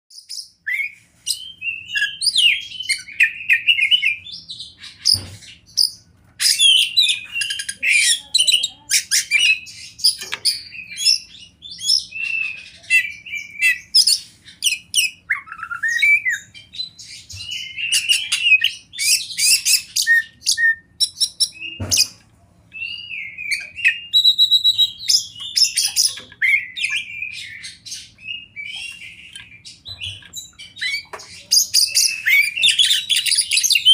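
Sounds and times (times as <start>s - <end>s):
bird singing whistles and trills: 0.1s - 33.9s.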